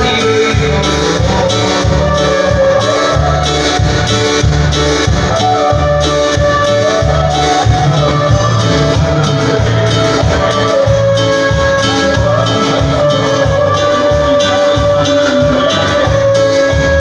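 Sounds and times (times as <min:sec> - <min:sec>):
bass beat: 0:00.0 - 0:17.0
dance band playing: 0:00.0 - 0:17.0.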